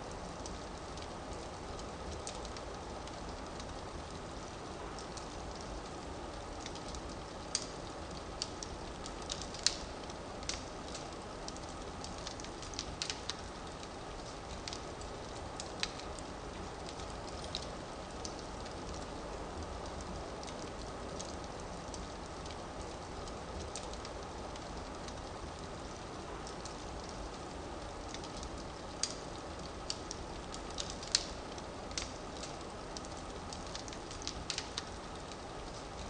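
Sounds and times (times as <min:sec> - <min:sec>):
firewood crackling and popping: 0:00.0 - 0:36.0.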